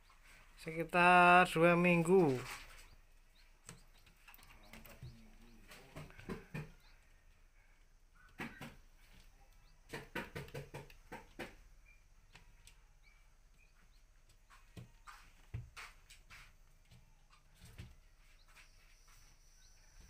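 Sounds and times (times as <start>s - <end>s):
chicks pecking on paper: 0.0s - 20.0s
chick peeps: 1.8s - 20.0s.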